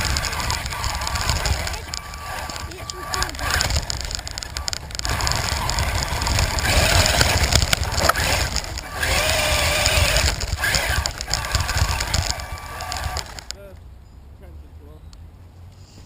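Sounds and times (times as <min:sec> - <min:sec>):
remote-control car motor running: 0:00.0 - 0:13.6
chassis and wheels rattling: 0:00.0 - 0:14.4.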